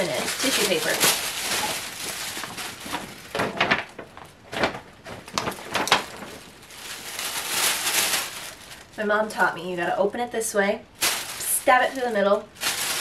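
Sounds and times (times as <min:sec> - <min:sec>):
paper rustling and crinkling: 0:00.0 - 0:09.0, 0:11.0 - 0:13.0.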